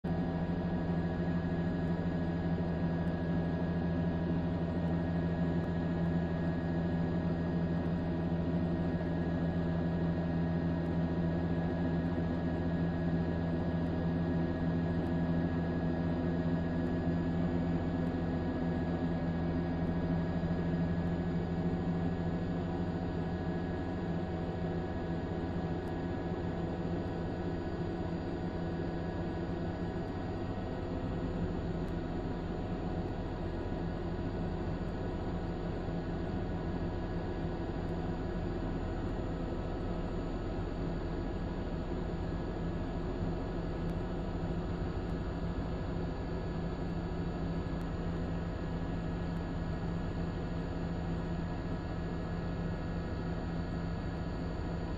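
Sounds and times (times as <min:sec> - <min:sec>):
electrical hum: 0:00.0 - 0:54.9.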